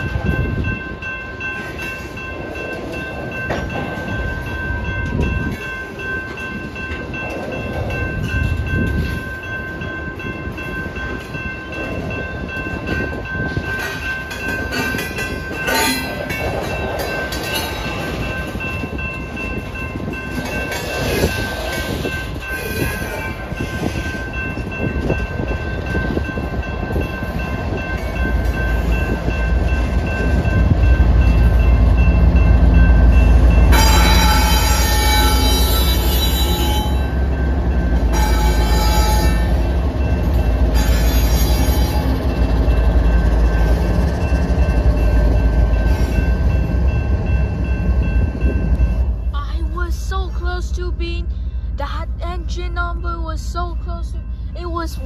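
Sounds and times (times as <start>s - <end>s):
crossing bell ringing: 0.0s - 55.0s
diesel locomotive rumble: 0.0s - 55.0s.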